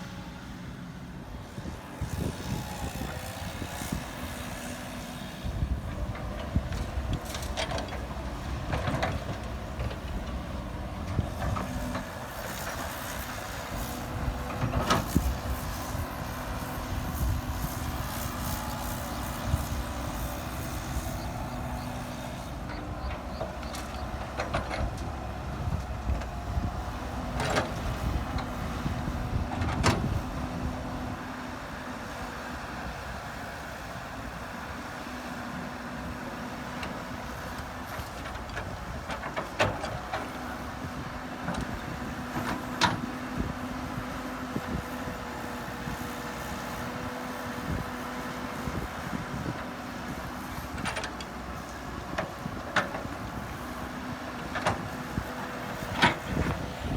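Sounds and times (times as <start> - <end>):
diesel construction machinery running: 0.0 - 56.9.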